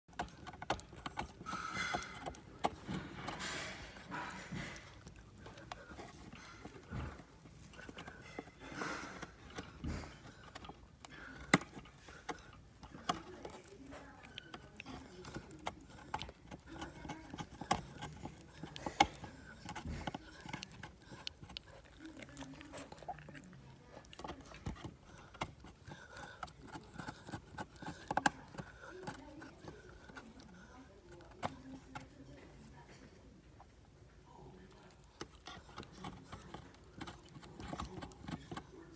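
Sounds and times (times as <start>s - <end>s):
puppy teeth gnawing on wood: 0.0s - 38.9s.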